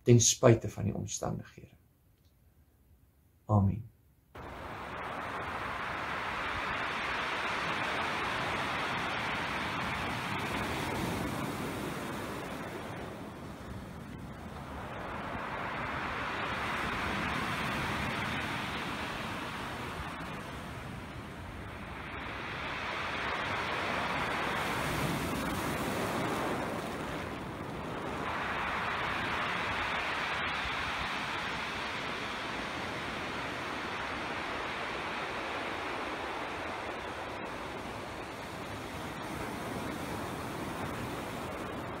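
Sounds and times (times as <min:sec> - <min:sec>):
surf washing over pebbles: 0:04.4 - 0:42.0.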